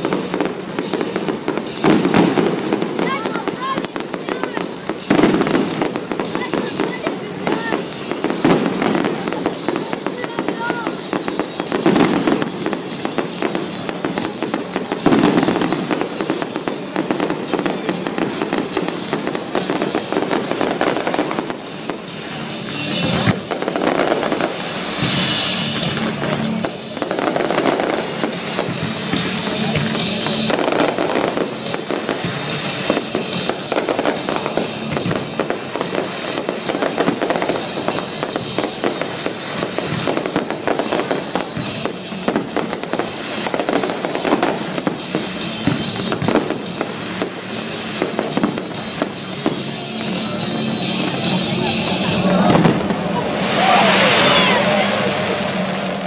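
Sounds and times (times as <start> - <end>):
fireworks bursts and crackling: 0.0 - 56.0
loud fireworks booms: 0.0 - 56.0
music from loudspeakers: 0.0 - 56.0.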